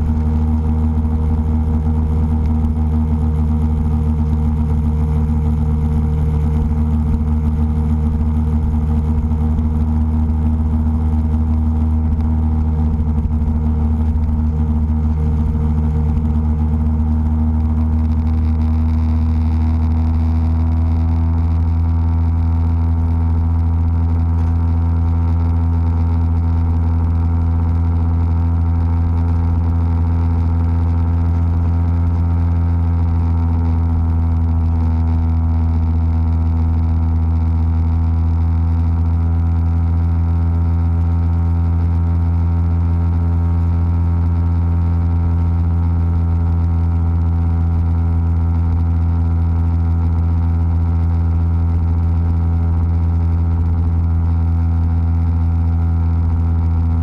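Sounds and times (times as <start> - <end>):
motorcycle engine drone: 0.0 - 57.0.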